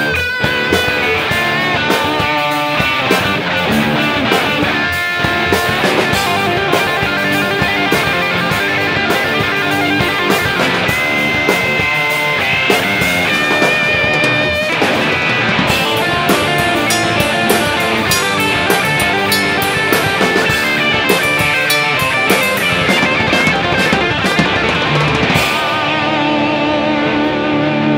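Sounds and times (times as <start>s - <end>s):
drum kit: 0.0s - 27.6s
electric guitar playing rock: 0.0s - 27.9s.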